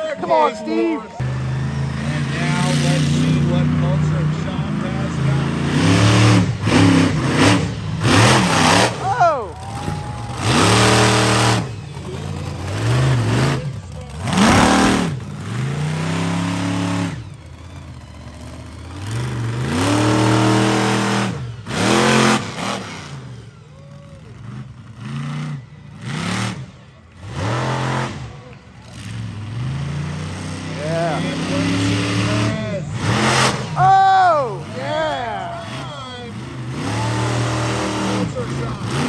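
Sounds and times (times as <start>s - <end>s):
truck engine revving hard: 0.0s - 39.0s.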